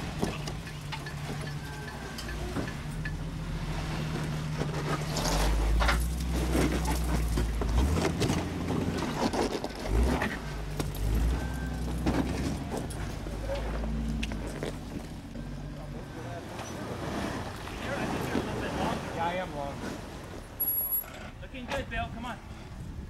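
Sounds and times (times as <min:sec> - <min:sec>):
car engine under load: 0:00.0 - 0:23.0
tires and chassis scraping rock: 0:00.0 - 0:23.0.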